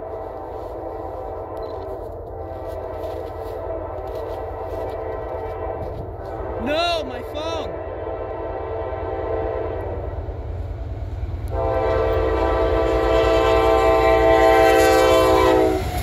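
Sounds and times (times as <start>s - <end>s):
locomotive air horn: 0.0s - 7.0s, 7.6s - 10.2s, 11.5s - 16.0s
diesel locomotive rumble: 0.0s - 16.0s.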